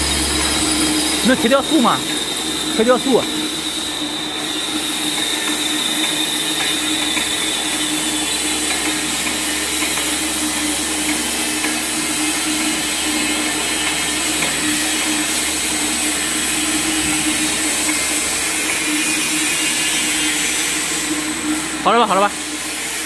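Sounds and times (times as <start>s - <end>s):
mixer motor hum: 0.0s - 23.0s.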